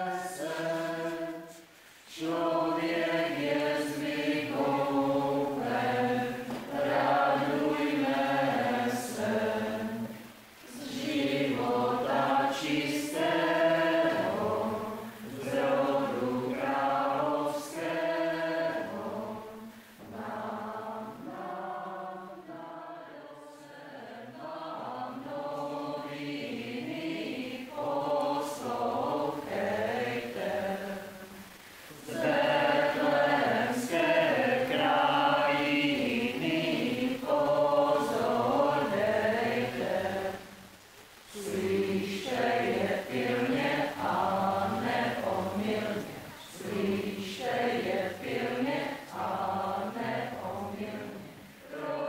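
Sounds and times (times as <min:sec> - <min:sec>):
group singing unaccompanied: 0:00.0 - 0:52.0.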